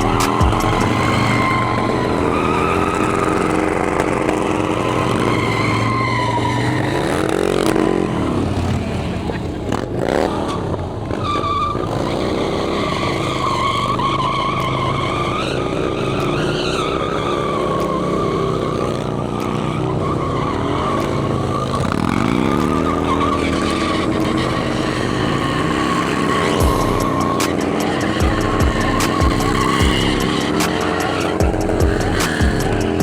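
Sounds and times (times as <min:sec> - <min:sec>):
motorcycle engine revving: 0:00.0 - 0:33.0
motorcycle tire squealing: 0:00.0 - 0:33.0.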